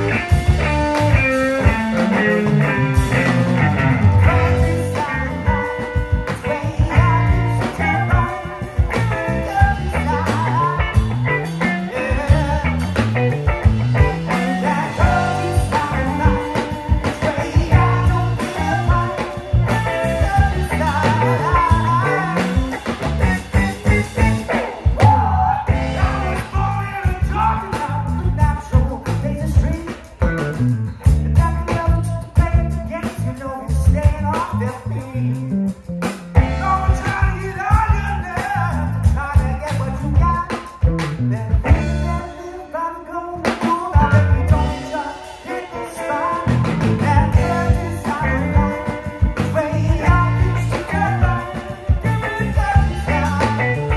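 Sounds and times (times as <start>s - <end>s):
person singing: 0.0s - 30.5s, 36.4s - 53.9s
drum kit: 0.0s - 53.9s
electric guitars: 0.0s - 53.9s.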